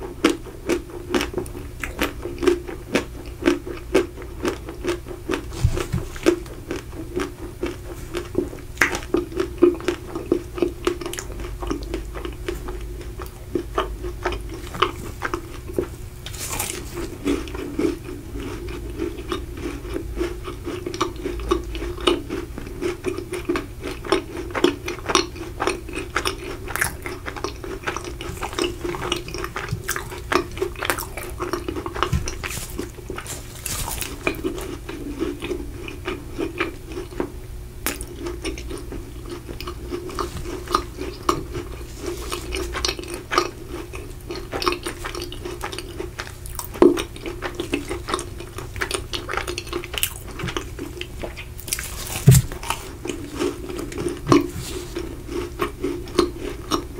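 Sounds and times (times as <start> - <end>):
crunching and chewing: 0.0 - 56.9.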